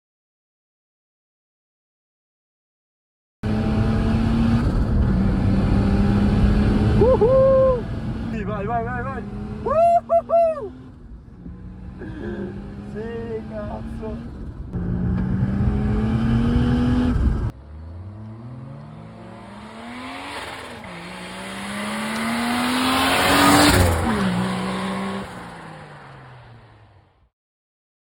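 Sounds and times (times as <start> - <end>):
car engine accelerating: 3.4 - 27.3.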